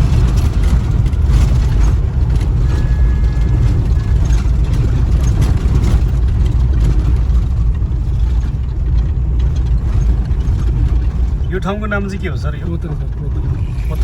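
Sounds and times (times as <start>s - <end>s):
vehicle rumbling on rough road: 0.0s - 14.0s.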